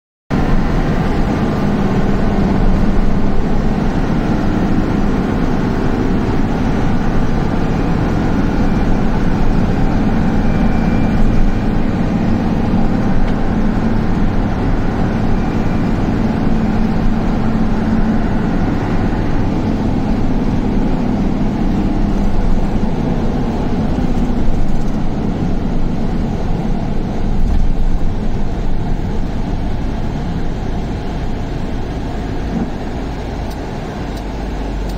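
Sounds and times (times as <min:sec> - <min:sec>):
vehicle engine and road noise: 0:00.3 - 0:34.9.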